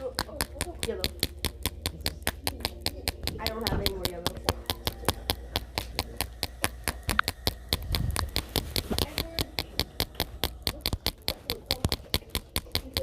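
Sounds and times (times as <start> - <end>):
faint voices: 0.0 - 13.0
rapid clicking pops: 0.0 - 13.0.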